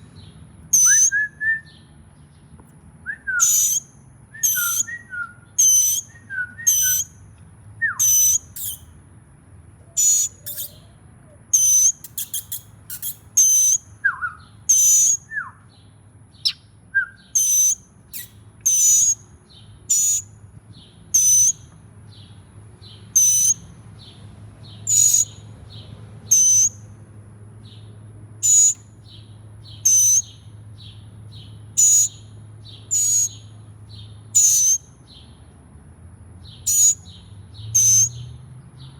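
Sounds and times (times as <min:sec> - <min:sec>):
nestlings chirping: 0:00.0 - 0:09.0, 0:09.8 - 0:27.0, 0:27.6 - 0:35.4, 0:36.4 - 0:38.3.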